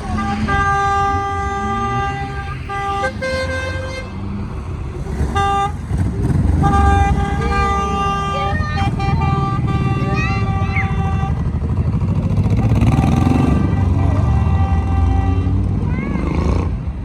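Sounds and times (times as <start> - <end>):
truck air horn blasts: 0.0 - 4.4, 5.2 - 11.7, 12.3 - 16.3
low engine rumble: 0.0 - 17.0.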